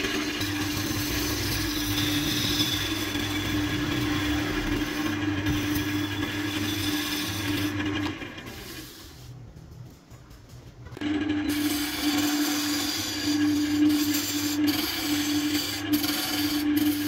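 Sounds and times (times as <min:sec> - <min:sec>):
wood lathe motor hum: 0:00.0 - 0:09.3, 0:11.0 - 0:17.0.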